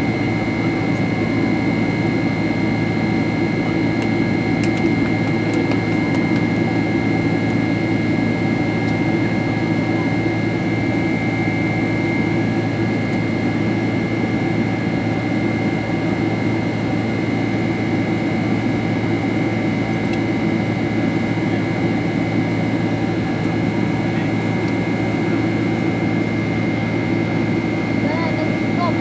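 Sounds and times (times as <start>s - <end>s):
jet engine drone in cabin: 0.0s - 29.0s.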